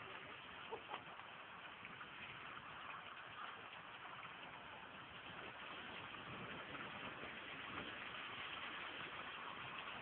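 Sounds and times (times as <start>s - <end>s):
steady rainfall: 0.0s - 10.0s.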